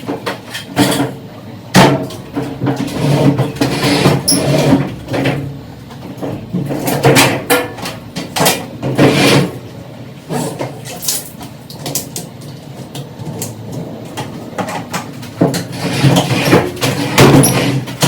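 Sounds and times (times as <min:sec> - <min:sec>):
washing machine clunks and scraping: 0:00.0 - 0:18.0.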